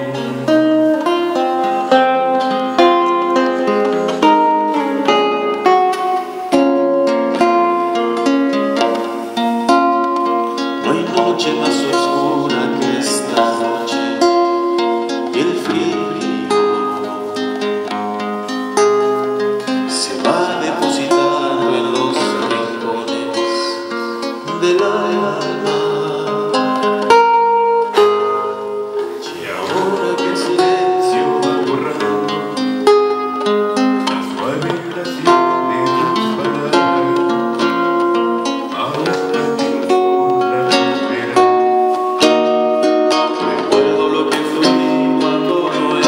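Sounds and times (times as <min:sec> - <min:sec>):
acoustic guitars playing: 0:00.0 - 0:46.0.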